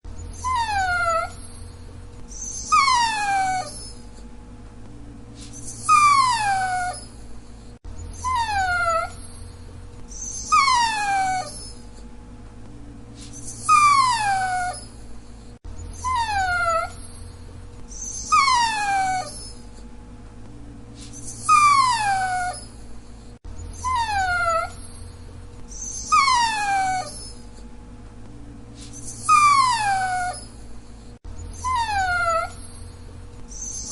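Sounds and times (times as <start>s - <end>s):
dog whining: 0.1s - 4.3s, 5.4s - 12.1s, 13.2s - 19.9s, 21.0s - 27.7s, 28.8s - 33.9s.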